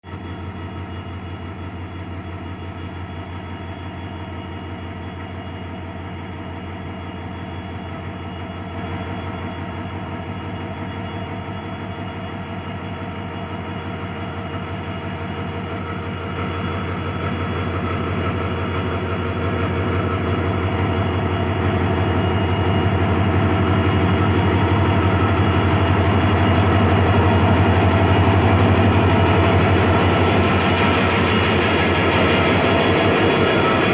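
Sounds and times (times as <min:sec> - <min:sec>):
diesel locomotive engine humming: 0:00.1 - 0:33.9.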